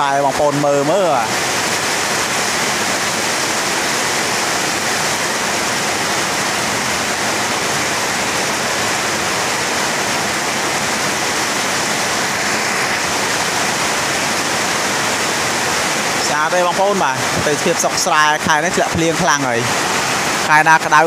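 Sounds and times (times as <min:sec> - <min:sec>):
heavy rain on trees and ground: 0:00.0 - 0:21.0.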